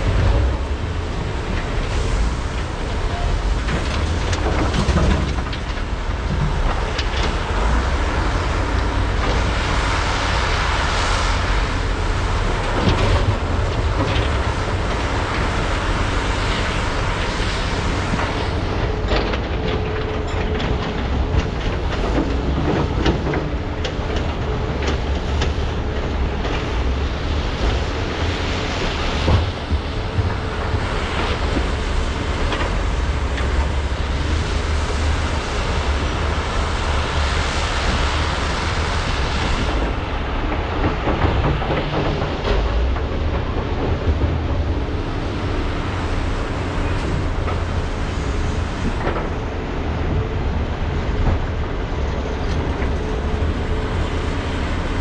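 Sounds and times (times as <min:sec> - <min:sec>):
excavator diesel engines rumbling: 0:00.0 - 0:55.0.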